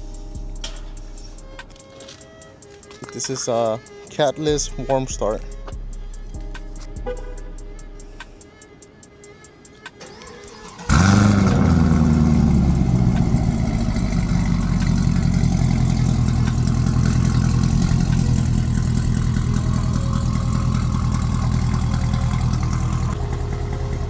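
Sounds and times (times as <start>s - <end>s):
car engine starting and idling: 0.0s - 8.6s, 9.2s - 24.0s.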